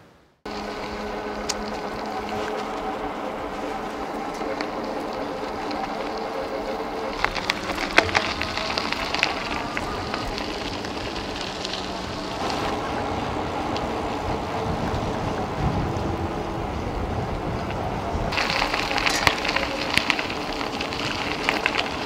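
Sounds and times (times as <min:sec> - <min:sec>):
tyres rolling over gravel: 0:00.5 - 0:22.0
wind buffeting microphone: 0:00.5 - 0:22.0.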